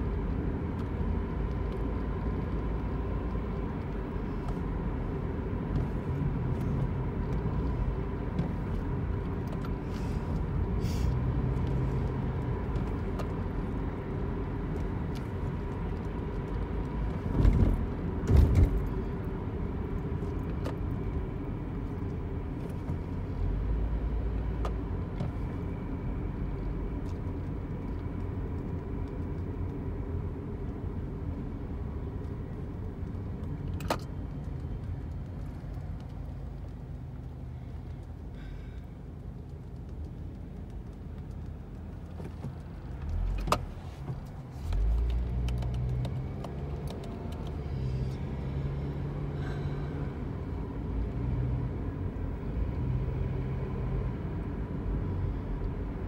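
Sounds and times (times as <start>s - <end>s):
road and engine rumble: 0.0s - 56.0s.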